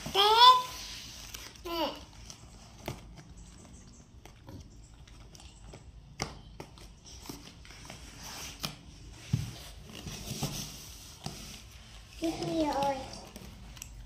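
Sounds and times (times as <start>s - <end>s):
soft taps and rustles on foam mat: 2.2s - 14.0s.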